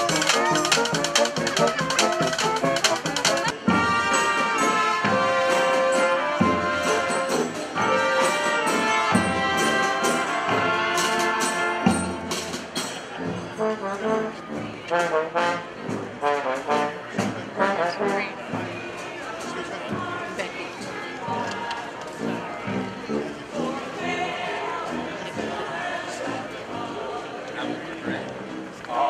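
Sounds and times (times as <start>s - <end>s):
drums: 0.0s - 23.8s
brass band playing: 0.0s - 29.0s.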